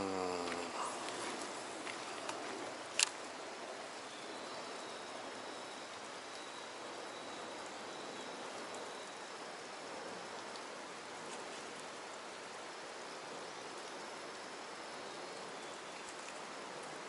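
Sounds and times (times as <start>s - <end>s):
running water hissing: 0.0s - 17.0s.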